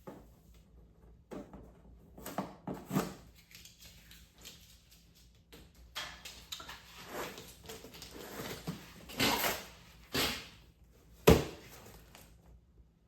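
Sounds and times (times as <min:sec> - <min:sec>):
handling rustles and knocks: 0:00.0 - 0:10.5.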